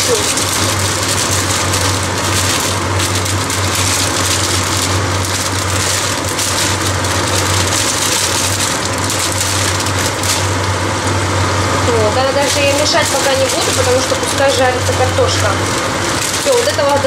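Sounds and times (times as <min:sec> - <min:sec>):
beans shaken from a bag: 0:00.0 - 0:10.8, 0:12.3 - 0:17.0
food sizzling in oil: 0:00.0 - 0:17.0.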